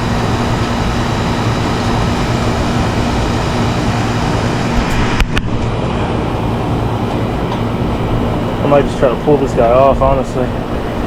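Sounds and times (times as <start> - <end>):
air conditioner hum with fan rush: 0.0 - 11.0.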